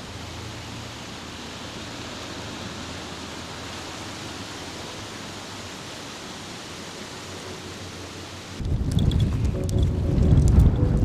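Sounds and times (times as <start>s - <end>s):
steady rushing hiss: 0.0s - 11.0s.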